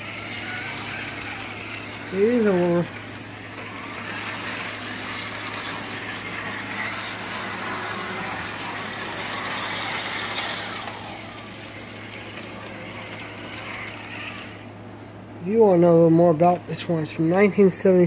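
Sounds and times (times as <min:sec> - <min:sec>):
model train motor whirring: 0:00.0 - 0:14.8.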